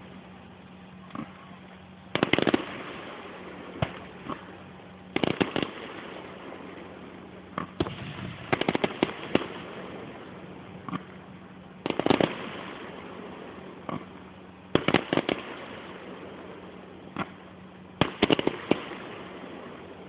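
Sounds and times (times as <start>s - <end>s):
fireworks bangs and crackles: 1.0s - 20.0s.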